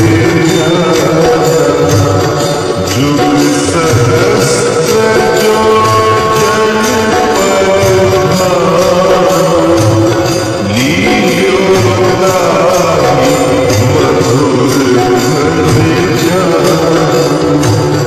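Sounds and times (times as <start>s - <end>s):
devotional music with jingling percussion: 0.0s - 18.0s.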